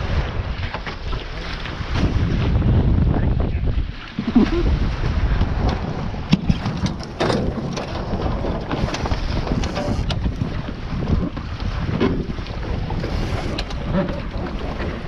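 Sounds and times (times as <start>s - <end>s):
water rushing along hulls: 0.0s - 15.0s
wind buffeting microphone: 0.0s - 15.0s
knocks and clicks from boat gear: 0.6s - 2.6s, 4.0s - 15.0s.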